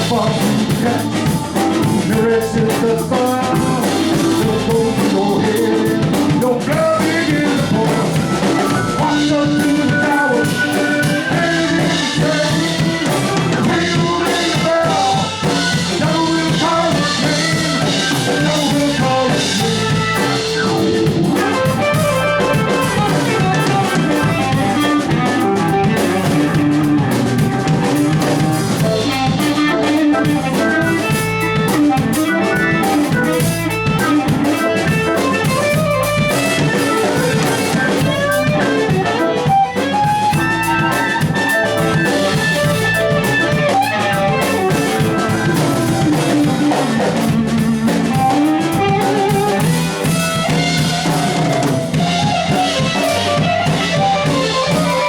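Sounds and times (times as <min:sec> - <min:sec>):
band playing: 0:00.0 - 0:55.0
drum kit: 0:00.0 - 0:55.0
guitar: 0:00.0 - 0:55.0.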